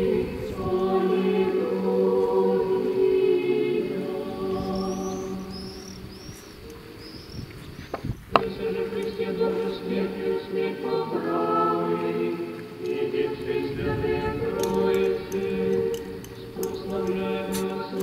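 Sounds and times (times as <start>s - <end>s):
choir singing unaccompanied: 0.0s - 18.0s.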